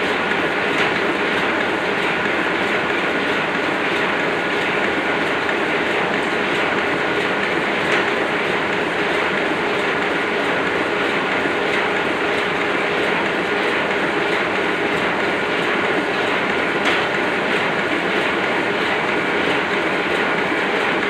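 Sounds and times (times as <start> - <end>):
printing press clatter: 0.0 - 21.0.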